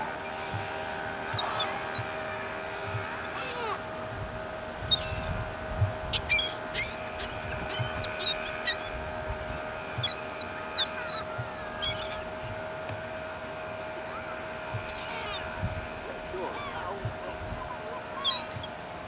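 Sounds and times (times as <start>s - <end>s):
gulls calling: 0.0s - 19.0s
steady hum: 0.0s - 19.0s.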